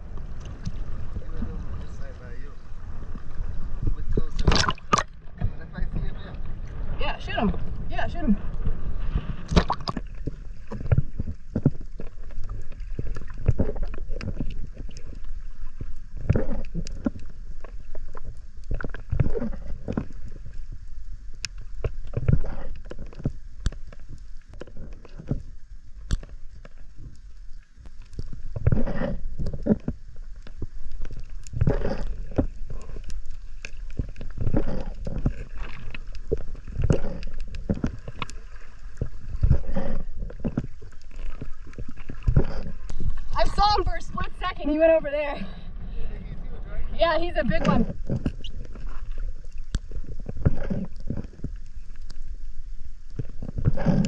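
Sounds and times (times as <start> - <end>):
underwater water movement: 0.0 - 54.0.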